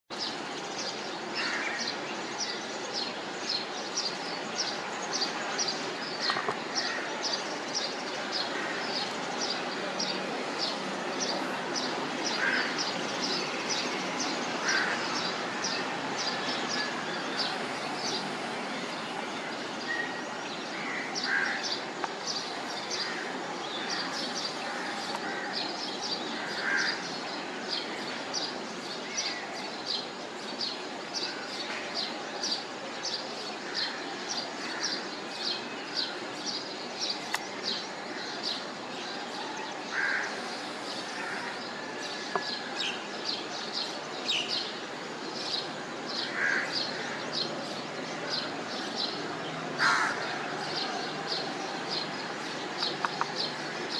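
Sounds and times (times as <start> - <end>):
birds chirping: 0.1 - 53.9
steady background hiss: 0.2 - 53.9.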